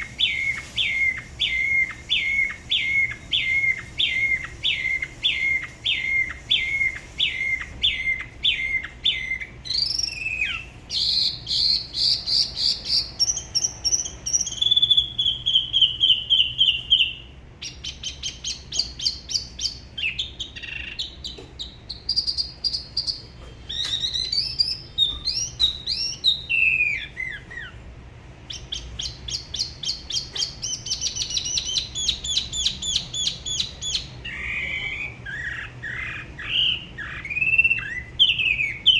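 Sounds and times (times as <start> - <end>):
bird singing whistled notes: 0.0 - 27.8, 28.5 - 38.9.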